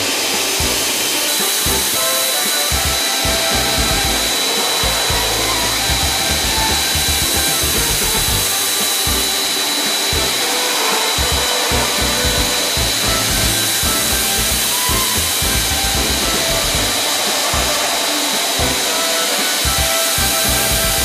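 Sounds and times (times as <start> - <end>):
motor hissing with high whine: 0.0 - 21.0.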